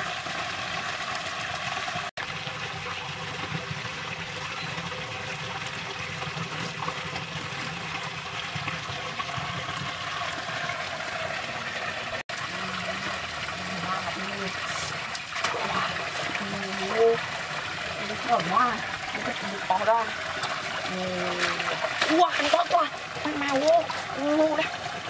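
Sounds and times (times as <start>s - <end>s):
running trickling water: 0.0s - 25.0s.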